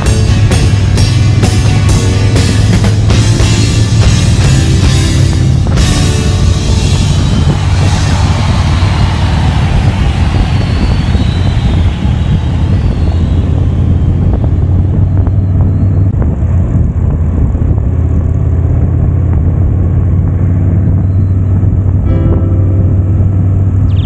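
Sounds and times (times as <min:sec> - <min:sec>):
motorcycle engine drone: 0:00.0 - 0:24.0
wind rush: 0:00.0 - 0:24.0.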